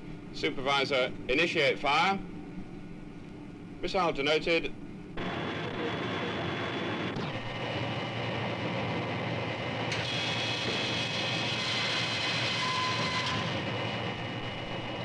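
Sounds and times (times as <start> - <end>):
machinery hum and whine: 0.0 - 15.0.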